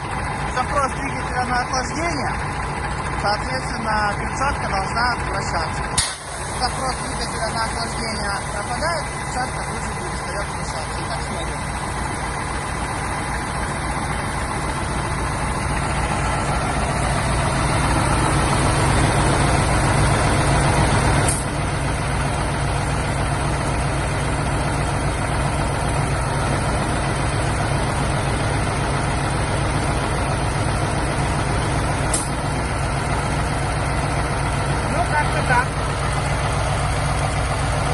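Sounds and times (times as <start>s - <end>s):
bus engine idling: 0.0s - 37.9s
radiator fan rushing: 6.0s - 37.9s.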